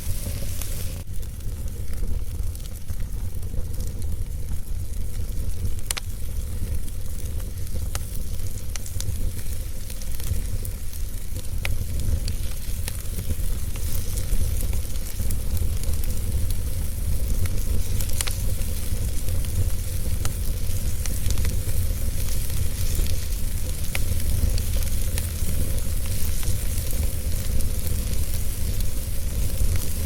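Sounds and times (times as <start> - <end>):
low fire rumble: 0.0 - 30.0
sharp fire pops: 0.0 - 30.0
wood fire crackling: 0.0 - 30.0.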